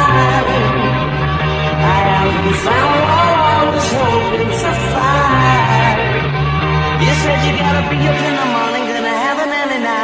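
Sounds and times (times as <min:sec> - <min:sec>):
guitar and bass playing: 0:00.0 - 0:09.2
person singing: 0:00.0 - 0:10.0.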